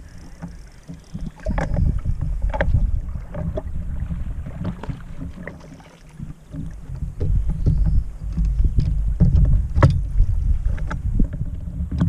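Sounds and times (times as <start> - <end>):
water slapping against boat: 0.0 - 12.0
wind buffeting microphone: 0.0 - 12.0.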